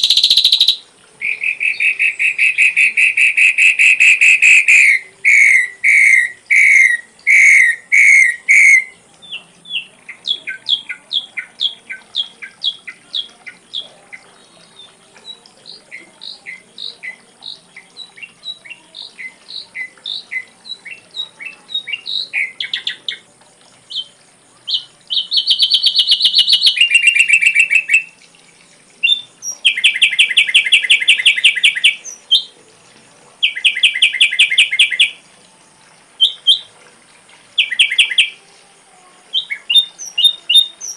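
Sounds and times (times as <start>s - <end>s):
bird singing whistled notes: 0.0s - 23.2s, 23.8s - 28.2s, 29.0s - 32.6s, 33.4s - 35.2s, 36.2s - 36.7s, 37.6s - 38.4s, 39.3s - 40.9s.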